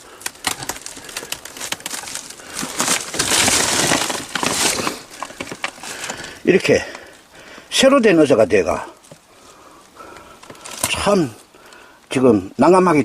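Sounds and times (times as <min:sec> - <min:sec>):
fire debris crunching and crackling: 0:00.0 - 0:12.2.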